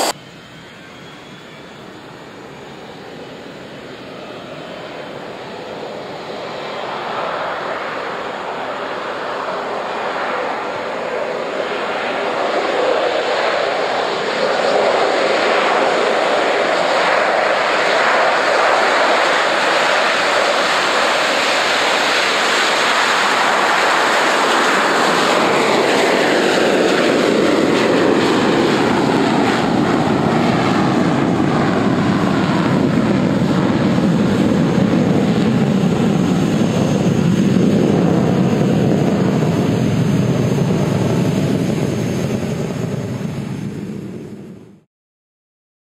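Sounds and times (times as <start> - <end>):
jet plane taking off: 0.0 - 44.9.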